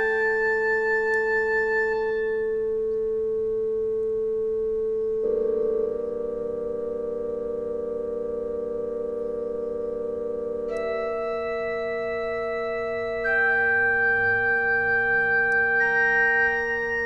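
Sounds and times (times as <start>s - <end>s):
keyboard playing organ-like chords: 0.0s - 17.0s.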